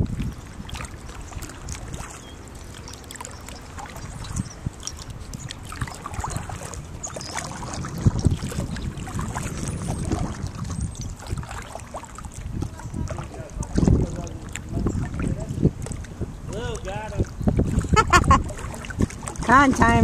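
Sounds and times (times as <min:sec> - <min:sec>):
water lapping and splashing: 0:00.0 - 0:20.0
wind rumble on microphone: 0:00.0 - 0:20.0.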